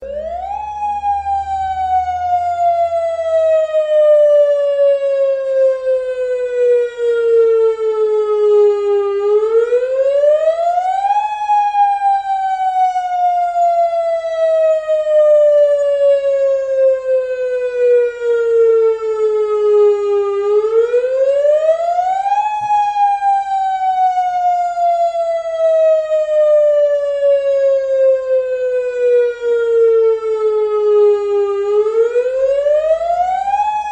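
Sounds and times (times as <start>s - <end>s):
warning siren sliding in pitch: 0.0s - 33.9s.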